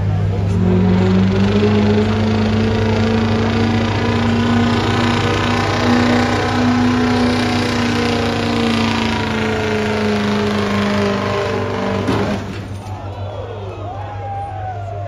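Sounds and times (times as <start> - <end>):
diesel pickup engine at full throttle: 0.0 - 12.9.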